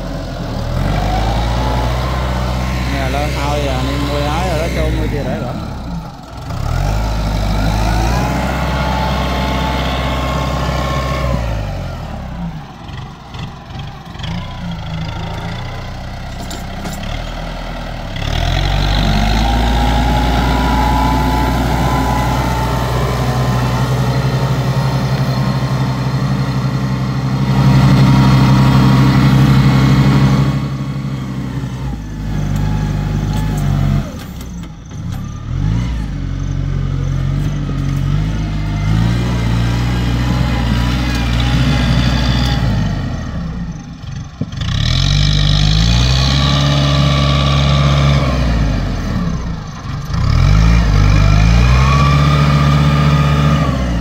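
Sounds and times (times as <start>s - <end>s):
tractor engine under load: 0.0s - 54.0s.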